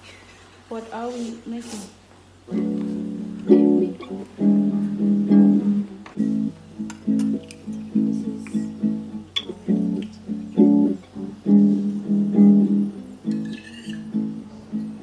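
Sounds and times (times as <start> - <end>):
acoustic guitar strumming: 2.5 - 15.0.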